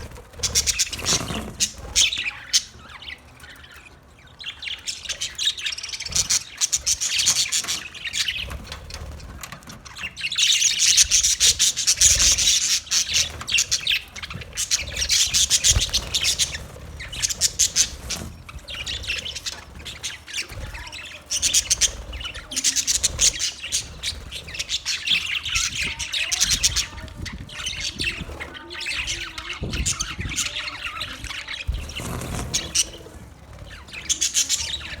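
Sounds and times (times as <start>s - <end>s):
parrots chirping and squawking: 0.0s - 35.0s.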